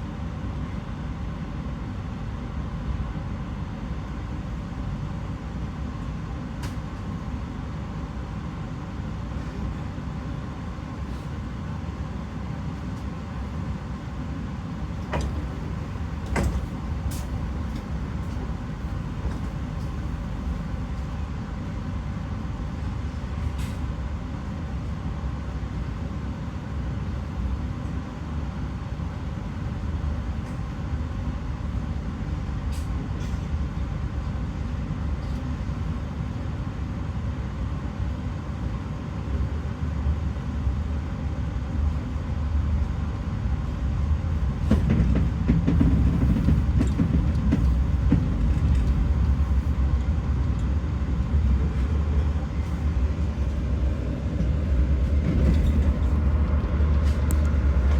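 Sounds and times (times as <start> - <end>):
low rumble inside train coach: 0.0 - 57.9.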